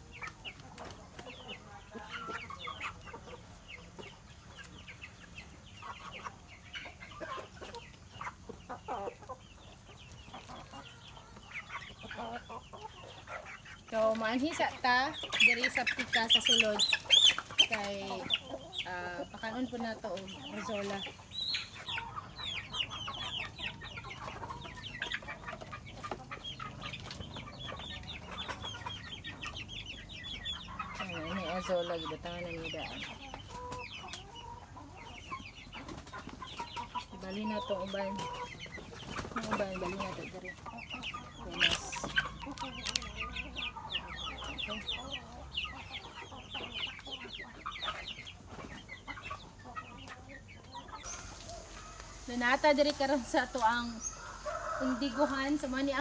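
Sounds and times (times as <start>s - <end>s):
chickens clucking and chirping: 0.0s - 56.0s.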